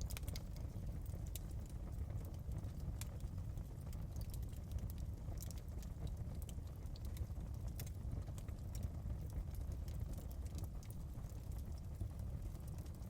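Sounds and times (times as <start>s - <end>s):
fire pops and snaps: 0.0s - 13.0s
low rumble of flames: 0.0s - 13.0s.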